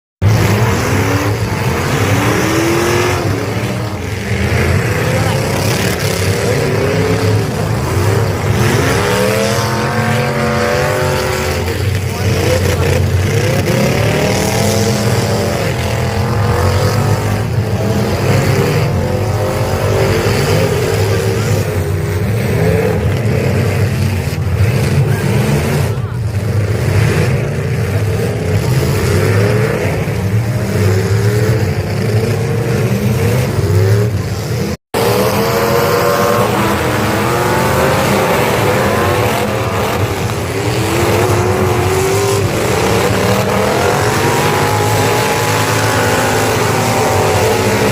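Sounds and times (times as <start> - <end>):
car engines revving: 0.2 - 47.9.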